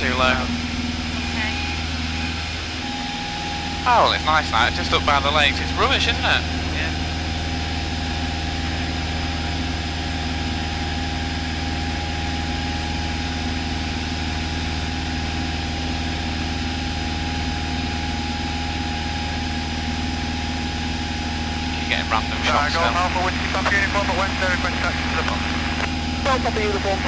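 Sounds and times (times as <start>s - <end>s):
aircraft engine drone in cabin: 0.0s - 27.0s.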